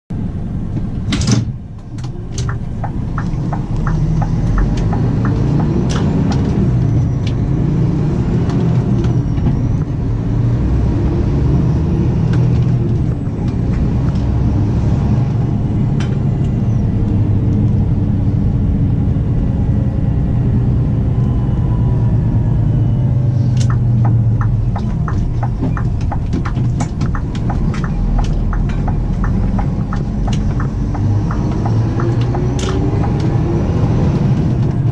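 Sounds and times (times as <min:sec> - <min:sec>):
truck diesel engine under load: 0:00.1 - 0:34.9.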